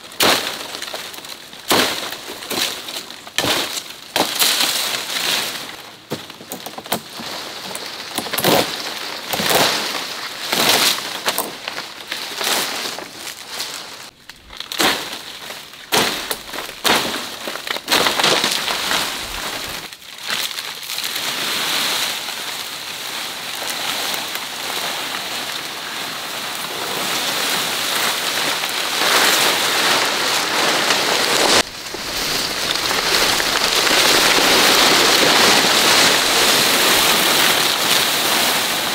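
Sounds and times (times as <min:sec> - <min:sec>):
palm fronds rustling and crackling: 0:00.0 - 0:38.9
fronds dragged over dry leaves: 0:07.0 - 0:38.9.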